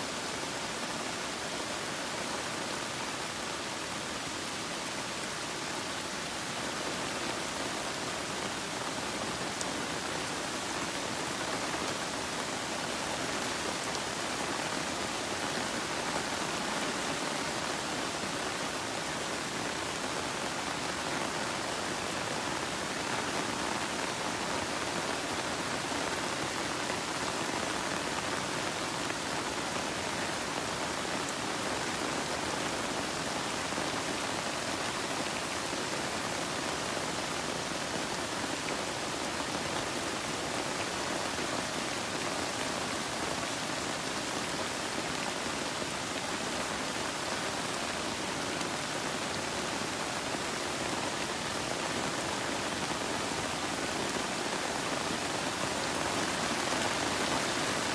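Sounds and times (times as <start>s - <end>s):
rain falling on leaves: 0.0s - 57.9s.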